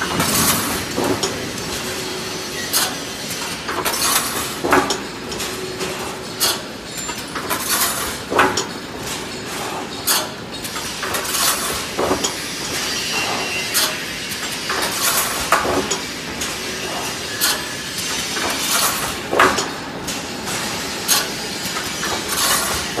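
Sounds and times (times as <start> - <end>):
welding machine clanks and clicks: 0.0 - 23.0.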